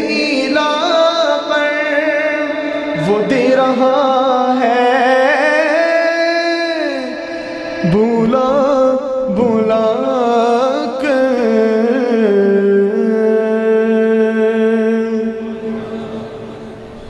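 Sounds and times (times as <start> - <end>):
man singing: 0.0 - 15.8.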